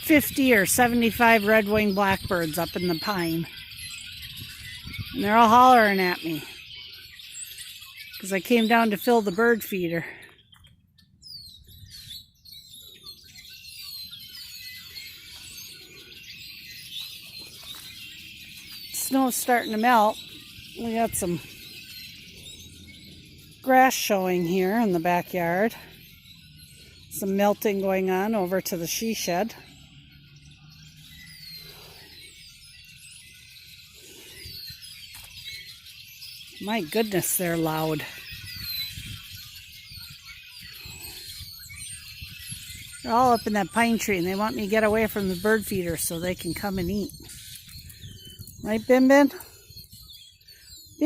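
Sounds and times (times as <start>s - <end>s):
flock of blackbirds calling: 0.0s - 51.0s.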